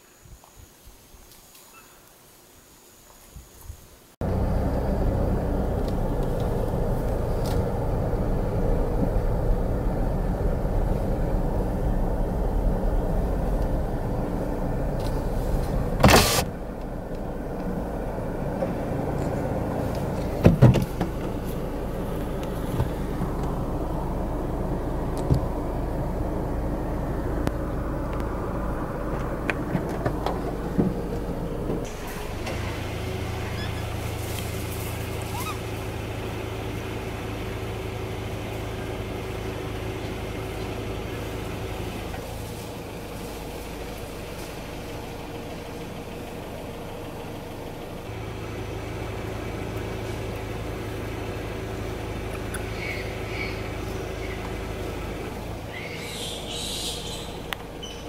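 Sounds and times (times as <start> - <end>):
car engine idling: 4.2 - 58.0.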